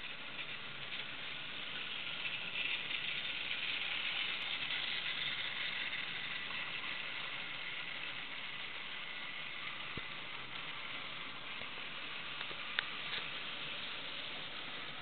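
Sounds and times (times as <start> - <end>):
model train running on metal track: 0.0 - 15.0.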